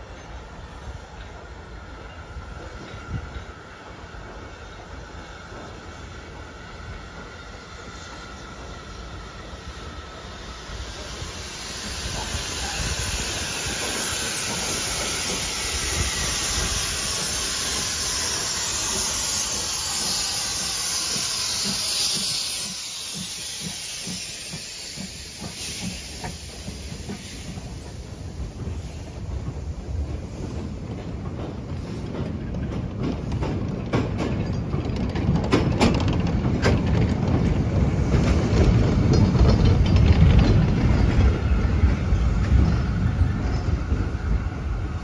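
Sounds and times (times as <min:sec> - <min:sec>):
locomotive steam hissing: 0:00.0 - 0:45.0
train wheels over rail joints: 0:00.0 - 0:45.0.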